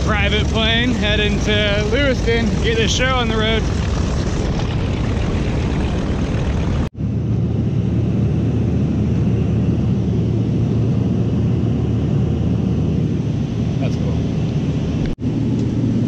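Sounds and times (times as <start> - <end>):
airplane cabin drone: 0.0 - 16.0.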